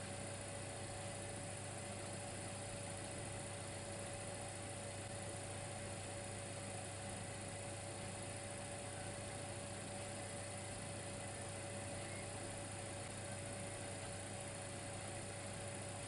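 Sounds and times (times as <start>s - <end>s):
constant whine: 0.0s - 16.0s
electric fireplace humming: 0.0s - 16.0s.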